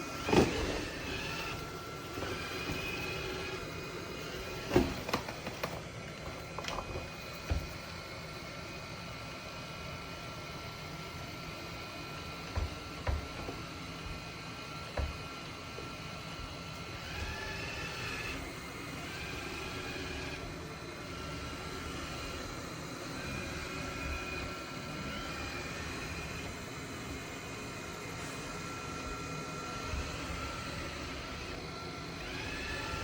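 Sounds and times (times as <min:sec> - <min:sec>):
robot vacuum whirring: 0:00.0 - 0:33.0.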